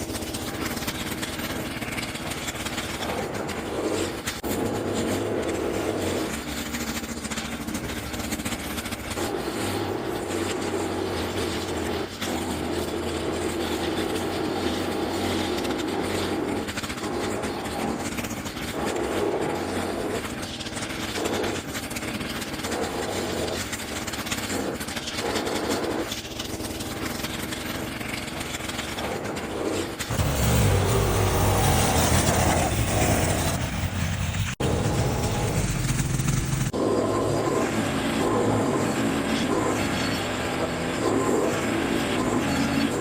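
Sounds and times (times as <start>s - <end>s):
electric snow shovel running: 0.0s - 43.0s.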